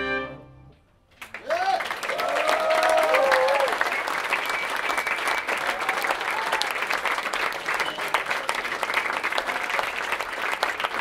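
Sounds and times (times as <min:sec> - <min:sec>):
audience clapping: 0:01.1 - 0:11.0.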